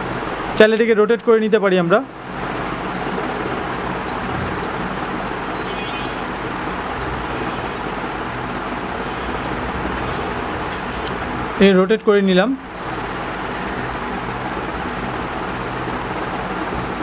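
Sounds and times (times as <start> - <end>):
road traffic noise: 0.0 - 0.8, 1.6 - 17.0.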